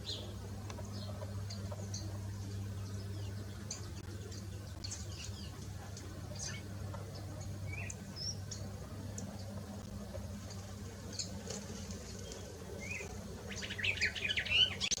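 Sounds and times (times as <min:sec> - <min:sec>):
bird chirping: 0:00.0 - 0:09.6, 0:11.0 - 0:11.4, 0:12.0 - 0:15.0
steady low hum: 0:00.0 - 0:15.0.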